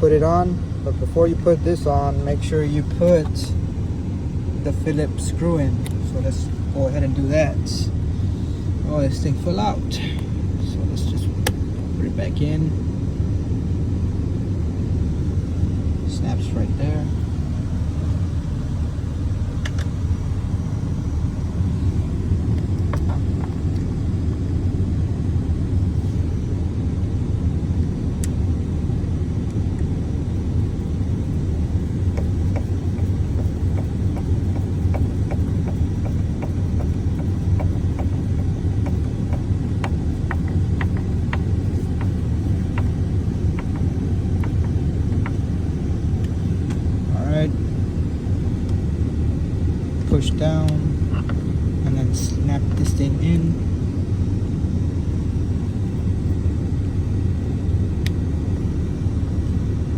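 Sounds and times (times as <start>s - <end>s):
low rumble: 0.0s - 59.9s.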